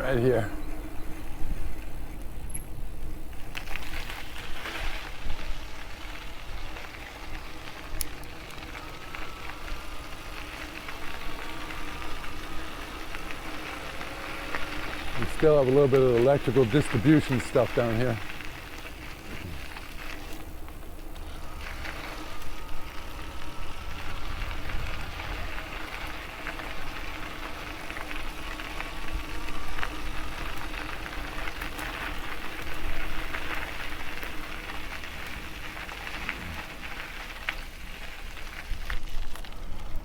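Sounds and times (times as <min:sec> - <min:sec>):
electric motor whine: 0:00.0 - 0:40.0
tyres crackling on trail: 0:00.0 - 0:40.0.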